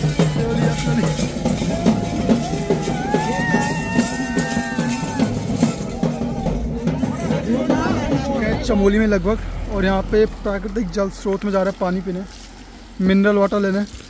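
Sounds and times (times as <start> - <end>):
music with drum beat: 0.0 - 12.0.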